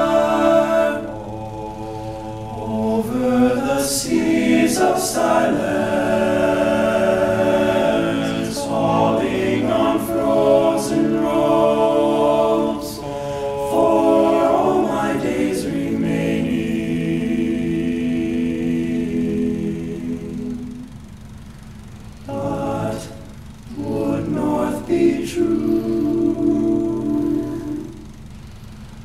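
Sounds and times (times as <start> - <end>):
men singing a cappella harmony: 0.0 - 21.0, 22.3 - 28.3.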